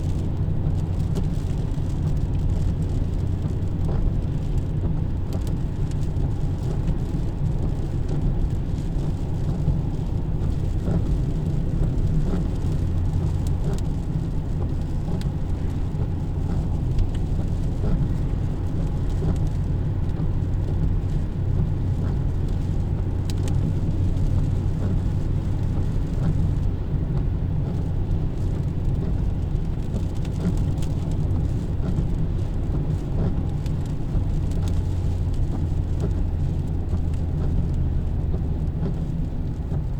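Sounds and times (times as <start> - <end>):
road traffic rumble in rain: 0.0 - 39.9.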